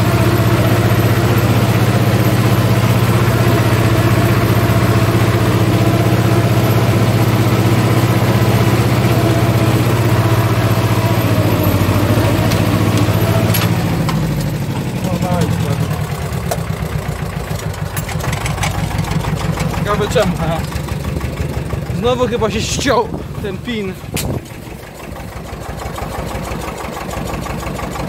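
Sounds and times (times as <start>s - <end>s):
diesel tractor engine running: 0.0s - 28.0s
rattling cab: 0.0s - 28.0s.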